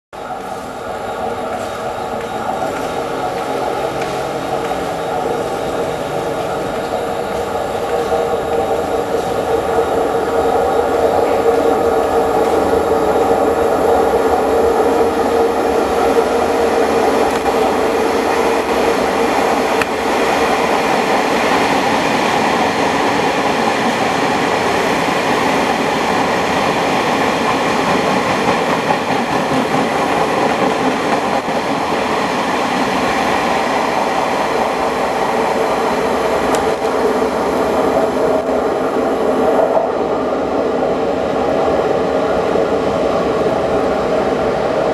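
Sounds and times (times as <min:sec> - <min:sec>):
electric train passing: 0:00.2 - 0:44.9.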